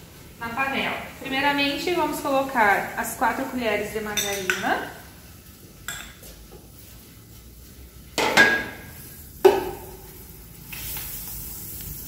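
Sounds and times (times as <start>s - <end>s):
margarine sizzling in pot: 0.0s - 12.0s.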